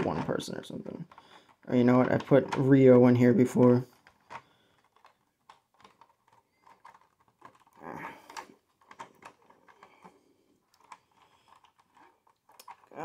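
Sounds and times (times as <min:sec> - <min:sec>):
plastic toy parts clicking: 0:00.9 - 0:13.0.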